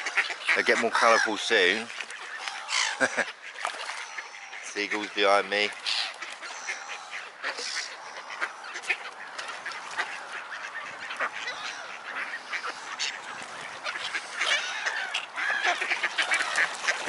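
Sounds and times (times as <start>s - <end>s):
ducks geese and gulls calling: 0.0s - 17.0s.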